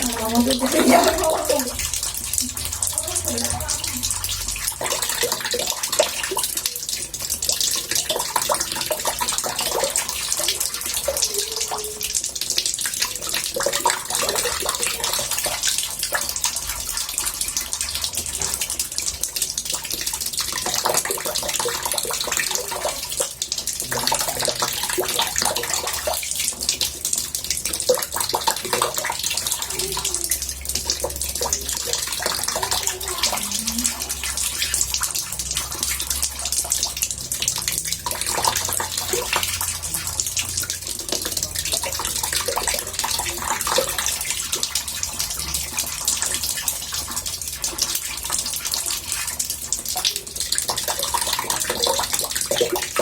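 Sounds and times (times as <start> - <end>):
water running into bathtub: 0.0 - 53.0.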